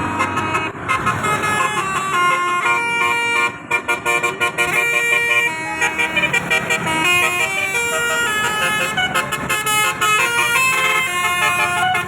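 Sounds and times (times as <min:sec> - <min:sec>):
low traffic rumble: 0:00.0 - 0:12.0
multi-tone vehicle horn melody: 0:00.0 - 0:12.0.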